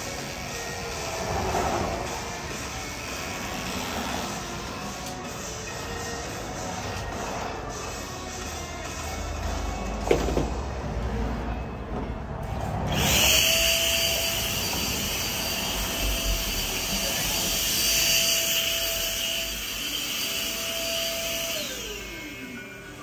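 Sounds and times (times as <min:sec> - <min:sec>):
small electric motor whine: 0:00.0 - 0:09.1, 0:12.9 - 0:23.0.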